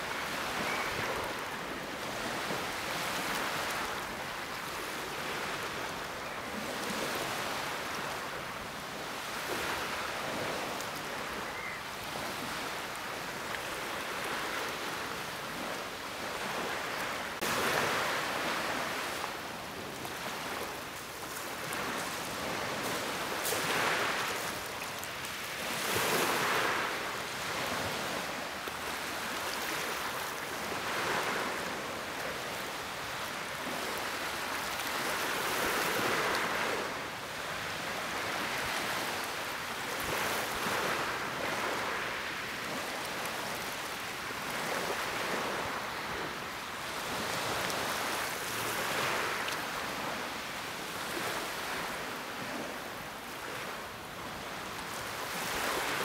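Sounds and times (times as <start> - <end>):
small waves washing in: 0.0 - 56.0.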